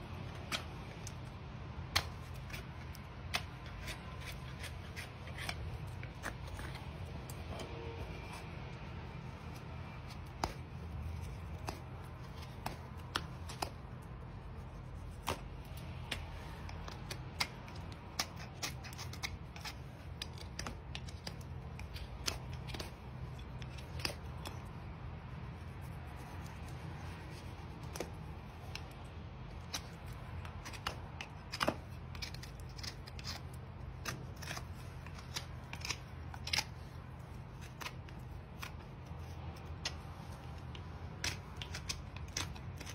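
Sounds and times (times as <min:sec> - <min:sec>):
knife scraping hoof: 0:02.0 - 0:24.7, 0:25.4 - 0:42.9.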